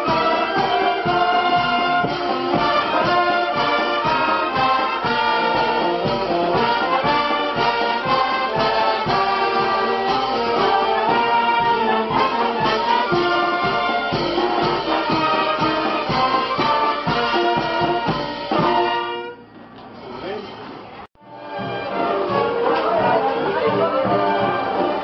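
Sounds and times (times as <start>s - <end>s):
brass melody: 0.0s - 19.5s, 21.2s - 25.0s.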